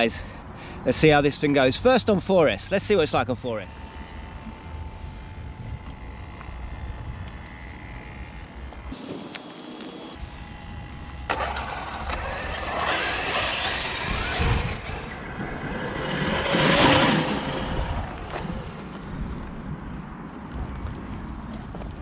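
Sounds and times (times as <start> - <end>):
rc truck motor and tyres on dirt: 1.8 - 22.0.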